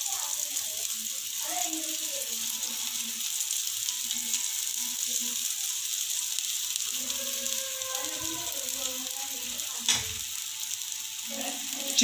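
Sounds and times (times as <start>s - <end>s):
patties sizzling in a pan: 0.0s - 12.0s.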